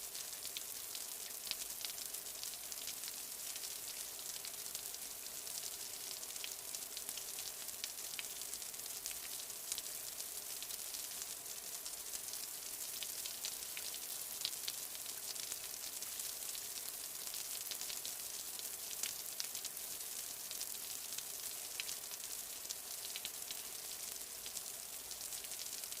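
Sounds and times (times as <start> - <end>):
light rain falling: 0.0 - 26.0.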